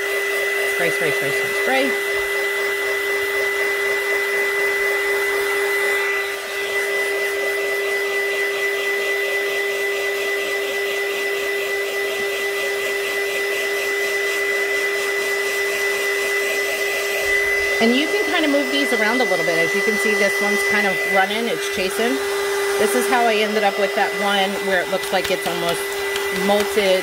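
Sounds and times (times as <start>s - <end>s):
heat gun blowing with whine: 0.0s - 27.0s.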